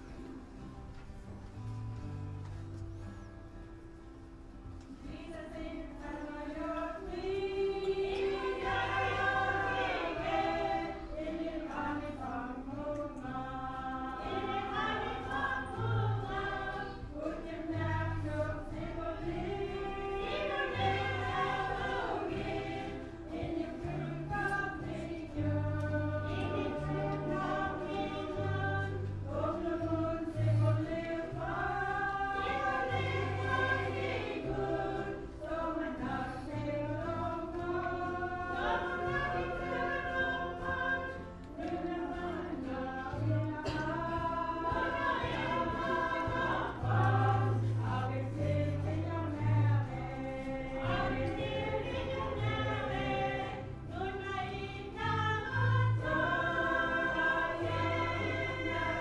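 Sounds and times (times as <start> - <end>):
church choir singing a hymn: 5.0 - 59.0.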